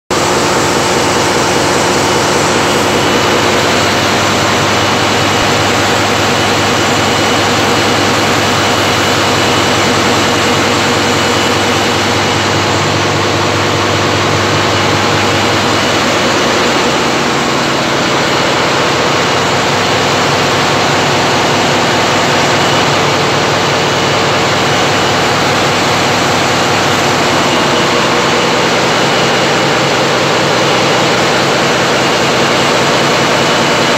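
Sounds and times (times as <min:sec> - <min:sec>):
diesel engine droning: 0:00.1 - 0:33.9.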